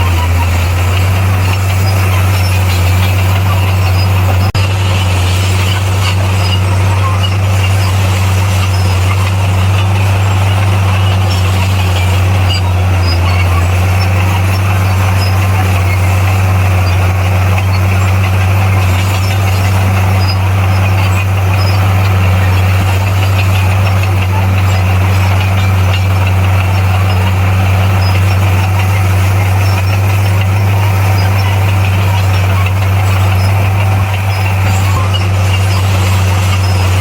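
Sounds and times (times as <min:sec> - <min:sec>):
bulldozer engine droning: 0:00.0 - 0:37.0
mechanical clatter: 0:00.0 - 0:37.0.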